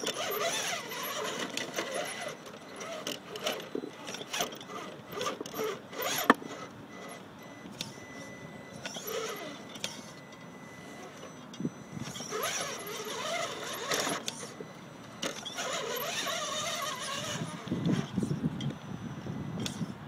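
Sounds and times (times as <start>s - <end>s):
electric motor and gears whining: 0.0s - 20.0s.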